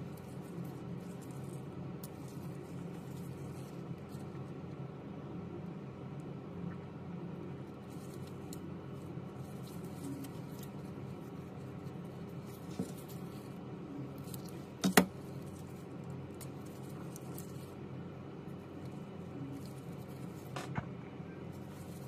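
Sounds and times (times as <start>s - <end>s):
plastic film rustling and crinkling: 0.0s - 4.8s, 7.6s - 20.8s, 21.4s - 22.0s
steady low hum: 0.0s - 22.0s.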